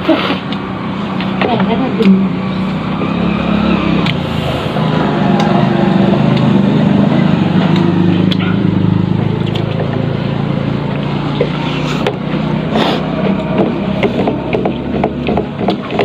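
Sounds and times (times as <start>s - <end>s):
motor hum: 0.5s - 16.0s.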